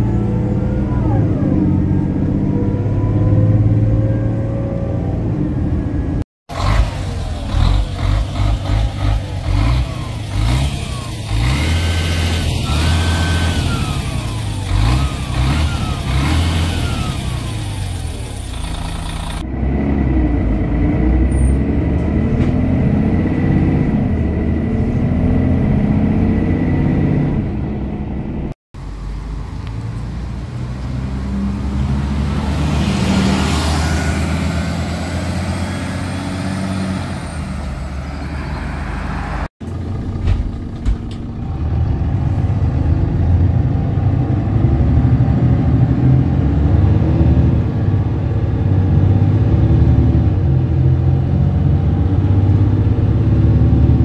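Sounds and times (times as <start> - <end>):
bus engine accelerating: 0.0 - 54.0
bus driving past: 1.2 - 54.0.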